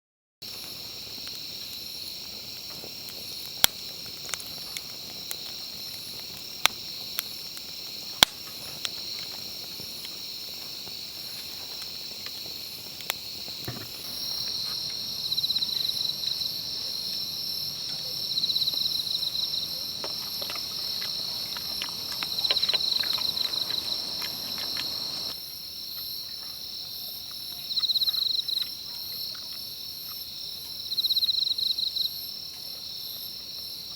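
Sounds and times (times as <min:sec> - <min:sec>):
crickets and insects trilling: 0:00.5 - 0:33.9.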